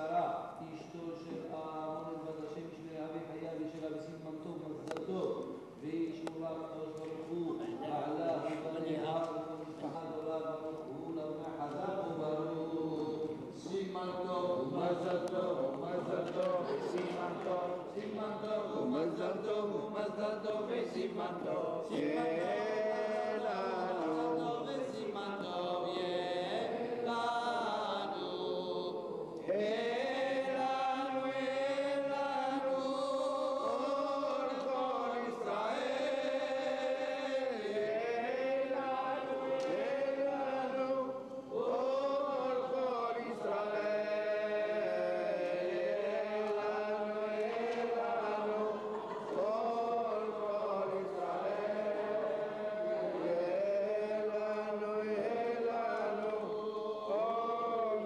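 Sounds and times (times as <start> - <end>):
person chanting: 5.8 - 58.0.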